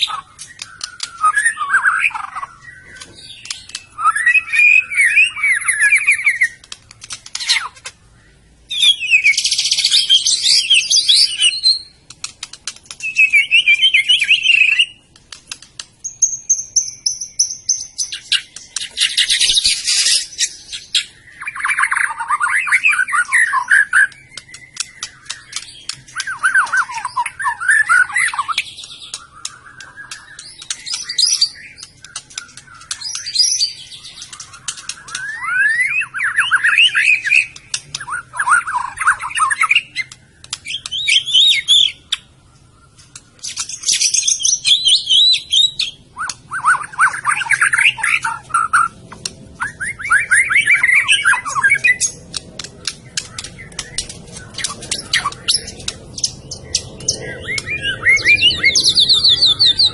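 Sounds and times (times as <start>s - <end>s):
bird singing whistles and trills: 0.0s - 15.1s, 16.0s - 59.9s.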